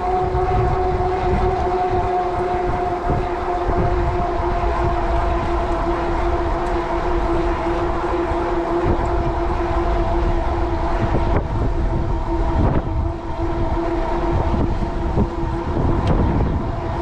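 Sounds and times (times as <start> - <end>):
electric bike whine: 0.0 - 17.0
wind rumble on microphone: 0.0 - 17.0.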